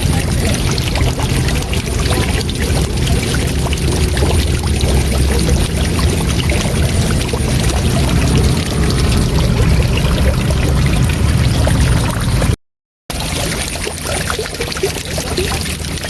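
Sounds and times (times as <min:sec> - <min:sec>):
waterfall rushing: 0:00.0 - 0:14.4.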